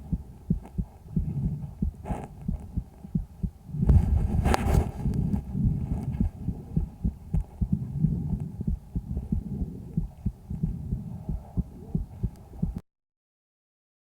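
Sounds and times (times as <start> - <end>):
heartbeats through stethoscope: 0.0 - 12.8
low breath sounds: 0.0 - 12.8.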